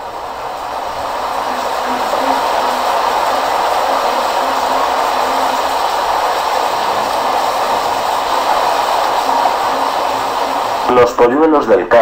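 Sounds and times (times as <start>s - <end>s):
heavy rain hiss: 0.0s - 11.2s.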